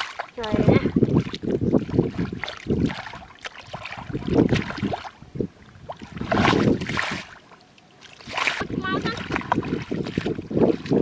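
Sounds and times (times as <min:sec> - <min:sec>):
muddy water splashing: 0:00.0 - 0:11.0.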